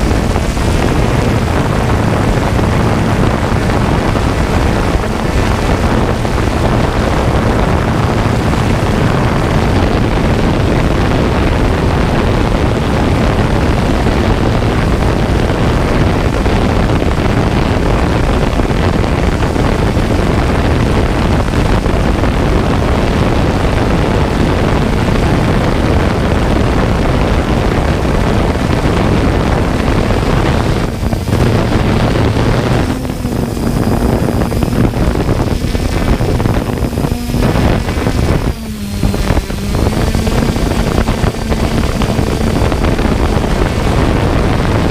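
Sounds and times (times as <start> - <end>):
drone motors and propellers whirring: 0.0 - 44.9
wind buffeting microphone: 0.0 - 44.9.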